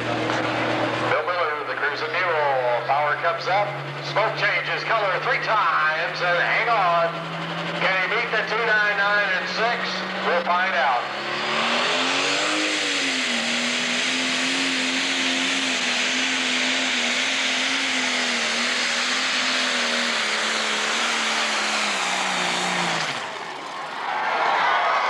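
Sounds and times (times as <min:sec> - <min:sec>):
diesel engine at full power: 0:00.0 - 0:25.0.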